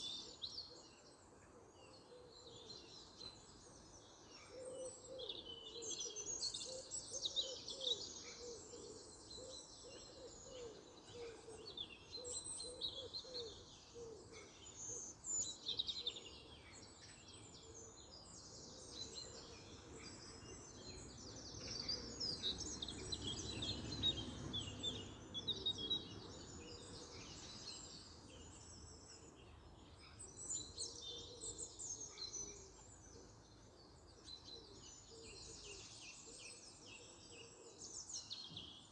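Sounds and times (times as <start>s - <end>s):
songbirds singing and chirping: 0.0s - 38.9s.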